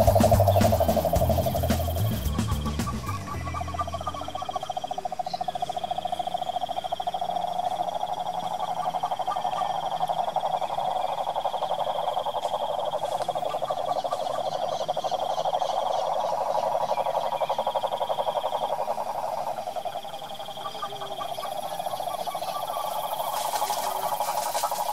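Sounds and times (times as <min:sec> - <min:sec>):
toad trilling: 0:00.0 - 0:24.9.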